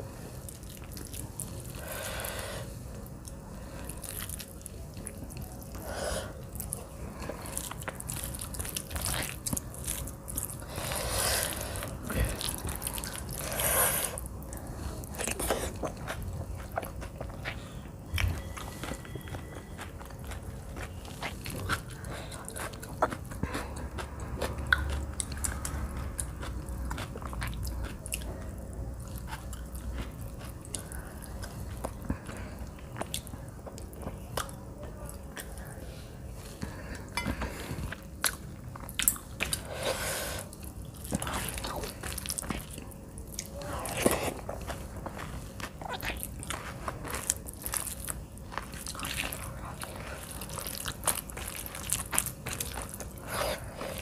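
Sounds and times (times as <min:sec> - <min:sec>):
person chewing: 0:00.0 - 0:54.0.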